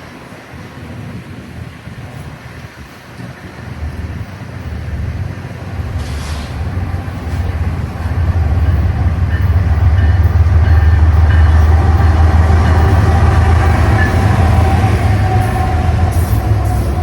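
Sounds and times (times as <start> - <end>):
train passing: 0.0 - 17.0.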